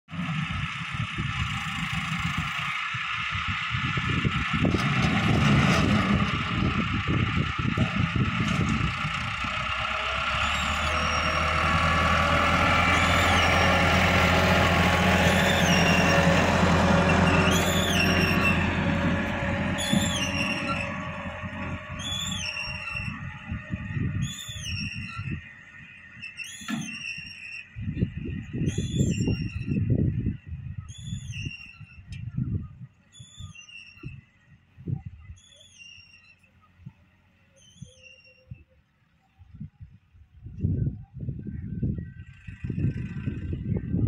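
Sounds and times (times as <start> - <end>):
tractor diesel engine running: 0.1 - 44.0.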